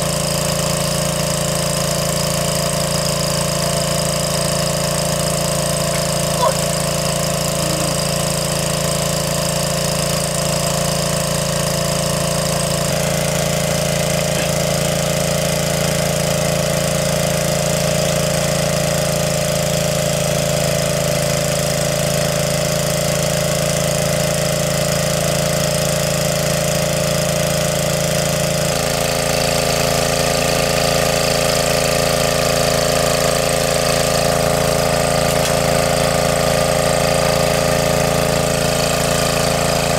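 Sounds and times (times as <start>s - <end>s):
water pump humming: 0.0s - 39.9s.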